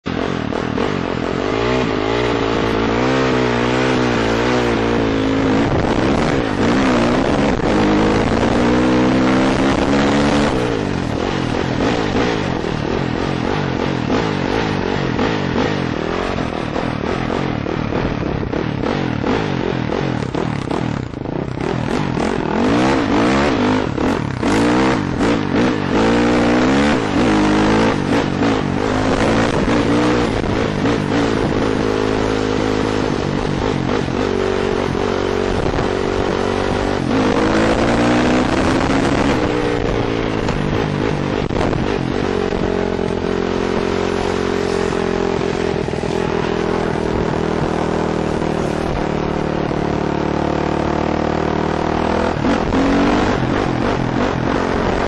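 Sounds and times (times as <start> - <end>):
dirt bike engine revving: 0.1 - 55.0.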